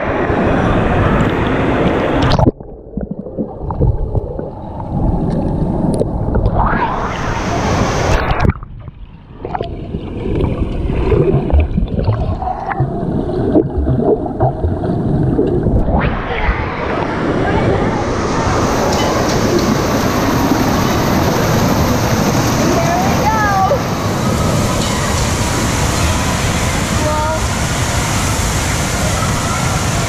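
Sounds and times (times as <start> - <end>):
muffled underwater rumble: 0.0 - 27.6
pool water splashing: 0.0 - 30.0.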